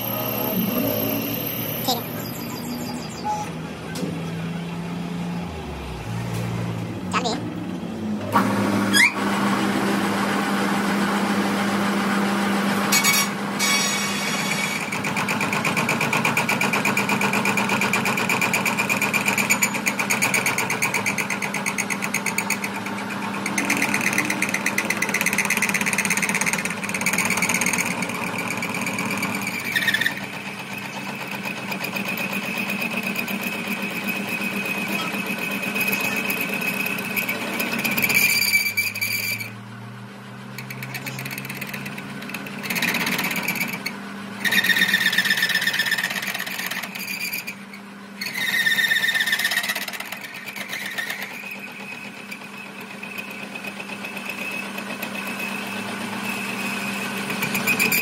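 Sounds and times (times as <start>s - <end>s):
workshop machine rattling and whining: 0.0s - 58.0s.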